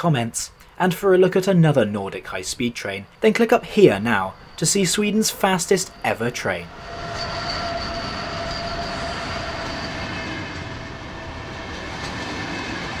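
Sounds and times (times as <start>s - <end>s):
faint high whine: 0.0s - 12.0s
train rumbling on rails: 2.0s - 13.0s.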